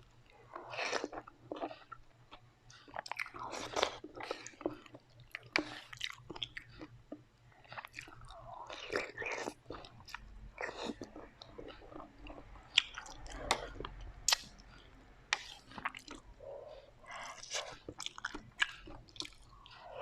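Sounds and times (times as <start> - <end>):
chewing and biting food: 0.4 - 20.0.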